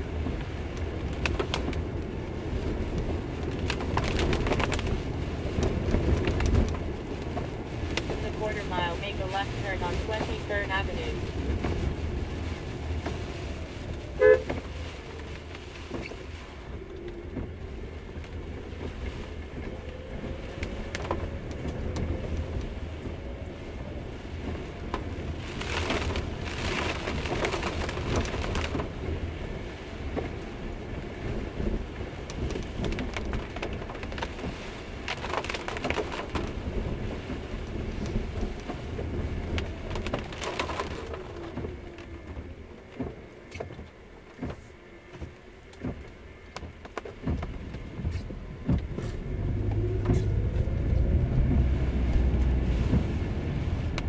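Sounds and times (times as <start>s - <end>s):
rain on windshield: 0.0s - 54.0s
road and engine rumble: 0.0s - 54.0s.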